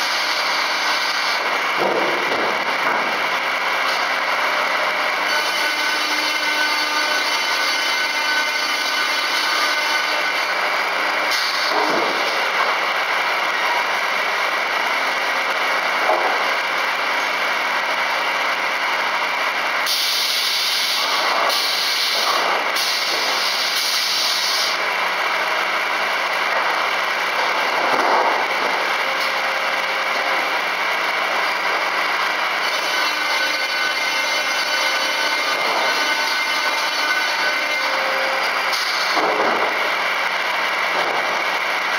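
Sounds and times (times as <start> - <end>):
circular sawmill running: 0.0 - 41.9.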